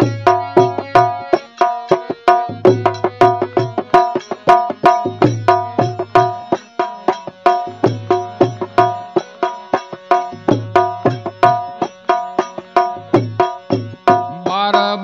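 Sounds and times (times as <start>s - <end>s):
tabla playing a steady rhythm: 0.0s - 15.0s.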